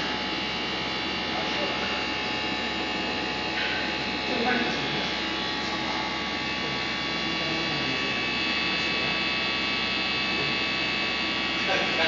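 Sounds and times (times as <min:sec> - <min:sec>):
electrical machine hum: 0:00.0 - 0:12.0.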